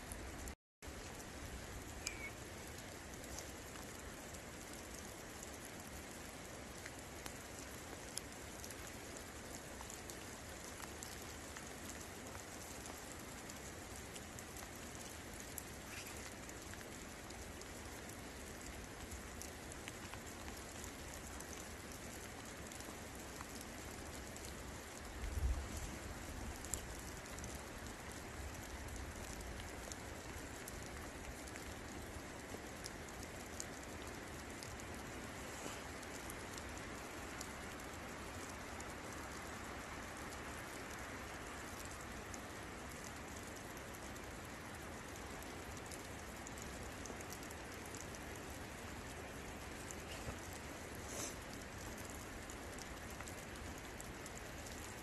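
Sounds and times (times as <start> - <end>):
close raindrops ticking: 0.0 - 55.0
steady rain falling: 0.0 - 55.0.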